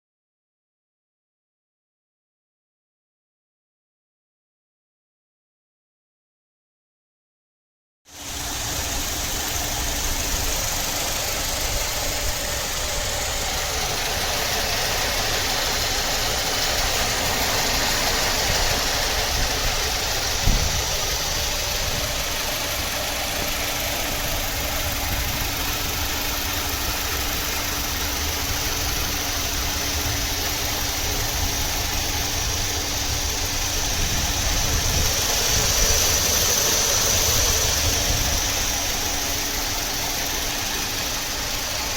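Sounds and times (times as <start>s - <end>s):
car engine idling: 8.1s - 41.9s.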